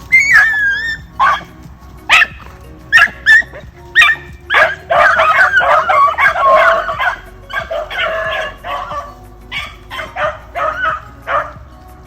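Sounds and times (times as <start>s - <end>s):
hounds barking and baying: 0.0s - 12.0s.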